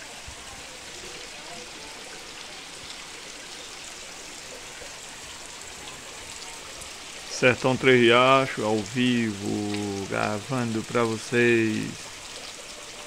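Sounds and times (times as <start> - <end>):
rainwater runoff flowing: 0.0 - 13.0
steady rain falling: 0.0 - 13.0.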